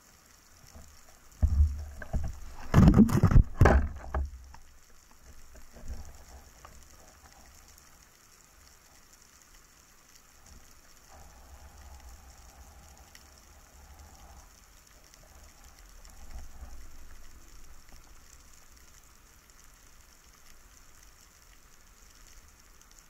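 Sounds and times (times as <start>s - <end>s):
faint hum: 0.0s - 23.0s
soft crackling ticks underwater: 0.0s - 23.0s.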